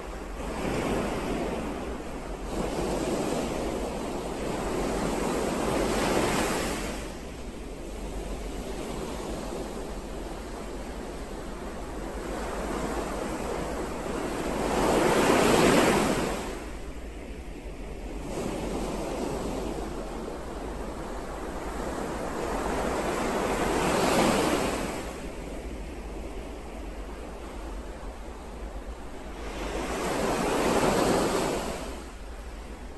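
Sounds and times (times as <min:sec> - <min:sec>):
ocean waves breaking on shore: 0:00.0 - 0:32.9.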